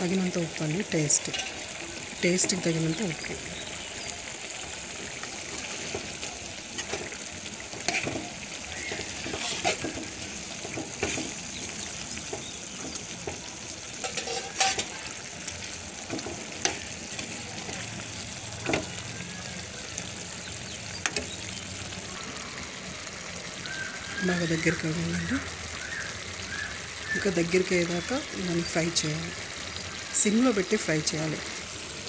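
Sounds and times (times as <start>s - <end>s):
chicken sizzling in a pan: 0.0s - 32.0s.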